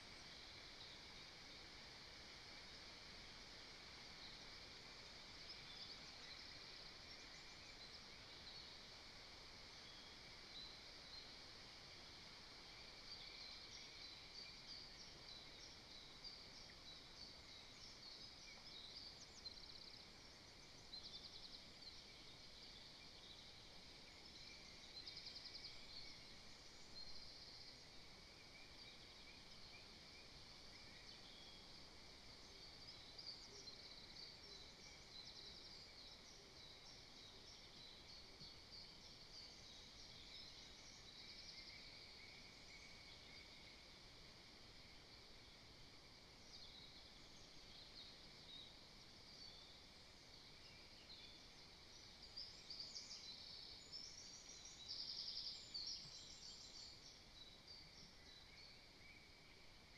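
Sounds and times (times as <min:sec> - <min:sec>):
low hiss: 0:00.0 - 0:59.9.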